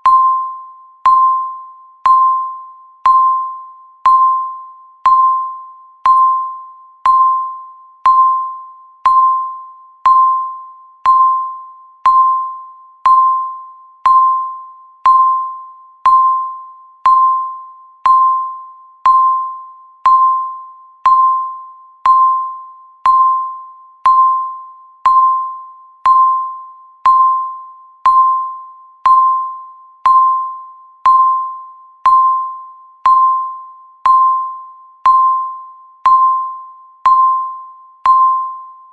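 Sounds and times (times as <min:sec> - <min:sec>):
timer electronic beep: 0:00.0 - 0:38.9.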